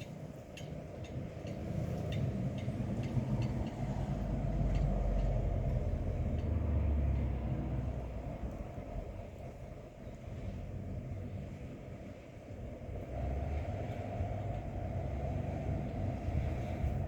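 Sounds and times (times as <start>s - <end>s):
wind gusting over microphone: 0.0s - 17.0s.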